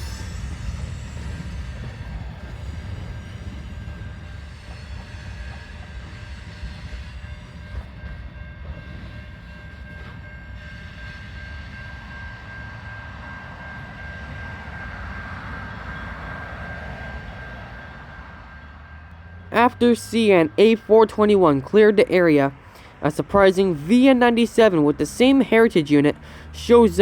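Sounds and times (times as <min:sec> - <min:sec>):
freight train rumbling on rails: 0:00.0 - 0:27.0
high-pitched whine: 0:00.0 - 0:27.0.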